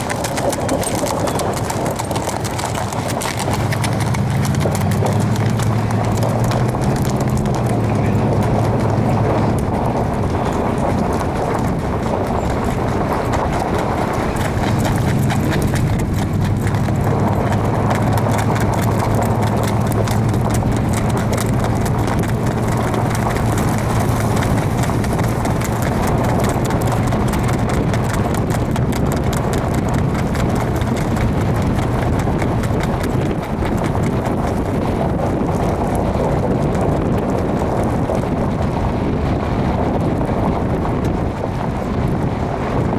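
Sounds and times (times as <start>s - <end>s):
horse hooves galloping: 0.0s - 42.9s.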